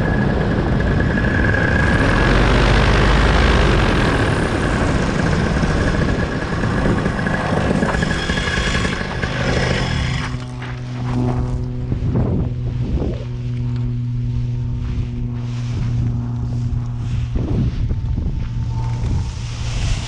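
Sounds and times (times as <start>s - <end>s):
loud wind rush: 0.0s - 20.0s
paramotor engine hum: 0.0s - 20.0s.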